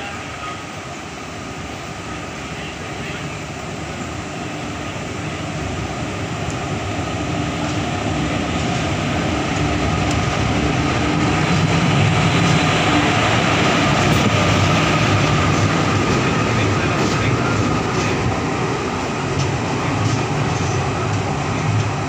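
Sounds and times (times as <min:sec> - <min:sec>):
electric locomotive humming: 0:00.0 - 0:22.0.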